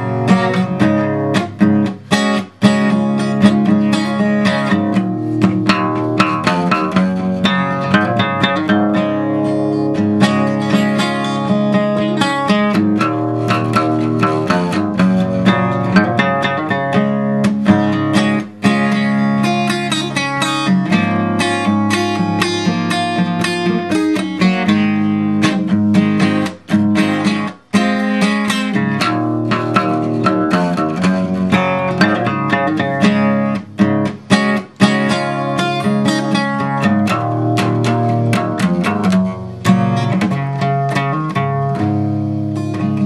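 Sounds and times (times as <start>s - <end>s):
acoustic guitar strumming chords: 0.0s - 43.0s.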